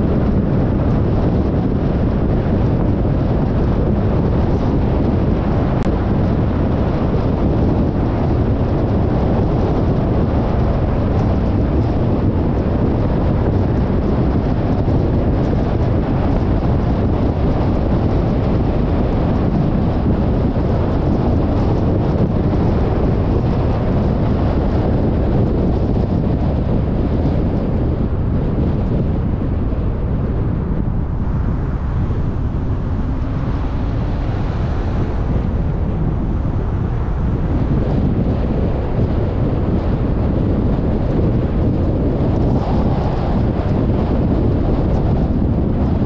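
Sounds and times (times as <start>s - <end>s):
car tyre rumble: 0.0s - 46.0s
wind rushing over microphone: 0.0s - 46.0s.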